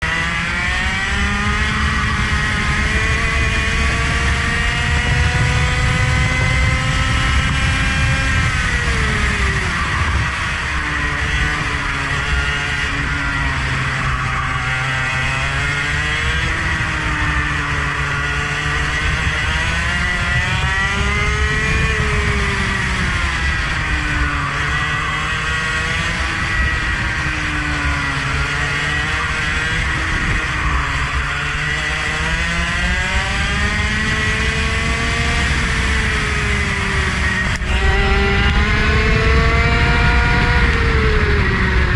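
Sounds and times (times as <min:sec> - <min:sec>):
racing engine revving: 0:00.0 - 0:41.9.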